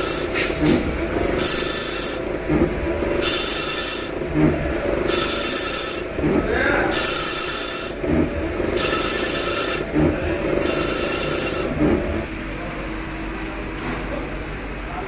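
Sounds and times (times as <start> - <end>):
lathe high-pitched cutting noise: 0.0 - 12.3.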